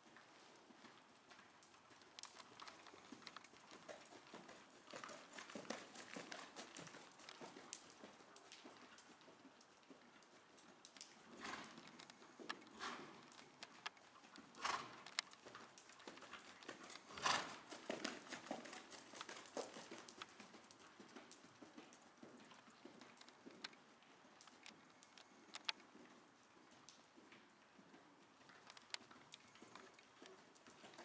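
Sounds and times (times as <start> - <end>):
horse hooves on soft sand: 0.0 - 31.0.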